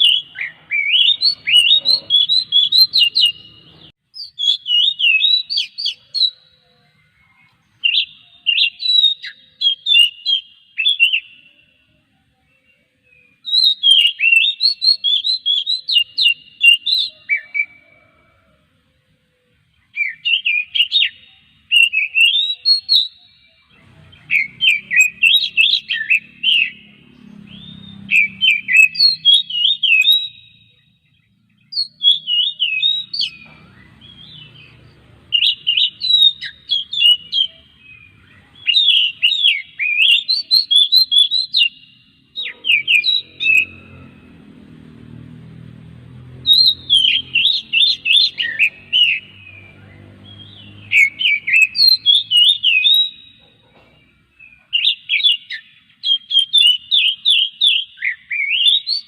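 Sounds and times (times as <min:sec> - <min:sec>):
bird singing whistled phrases: 0:00.0 - 0:11.8, 0:12.5 - 0:18.2, 0:19.9 - 0:31.0, 0:31.6 - 0:44.2, 0:46.4 - 0:53.7, 0:54.4 - 0:59.0.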